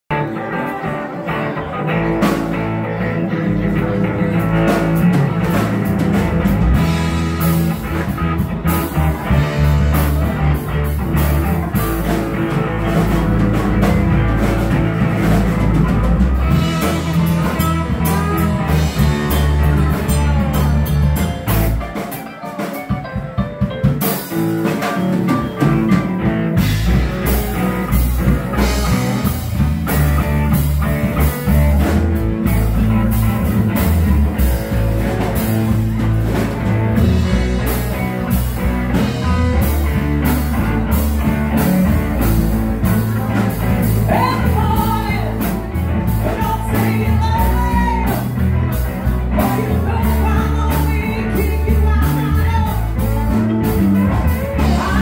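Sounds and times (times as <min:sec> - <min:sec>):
live rock band playing: 0:00.1 - 0:55.0.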